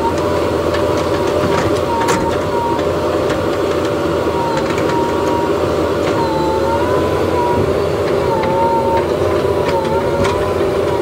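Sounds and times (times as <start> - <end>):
diesel engine under load: 0.0 - 11.0
hydraulic whine: 0.0 - 11.0.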